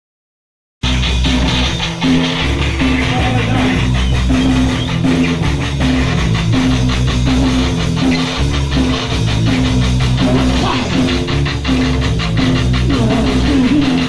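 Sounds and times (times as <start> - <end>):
hardcore punk band playing: 0.8 - 14.0.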